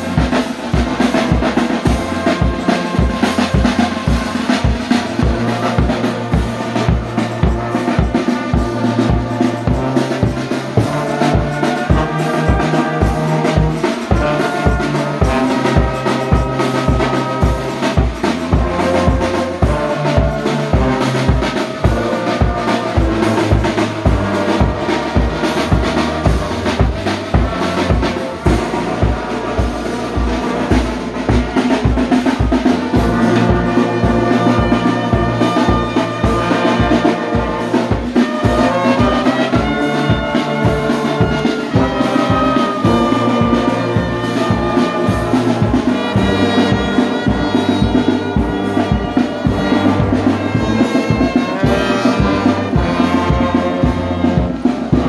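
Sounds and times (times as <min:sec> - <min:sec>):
brass band playing a hymn: 0:00.0 - 0:55.0.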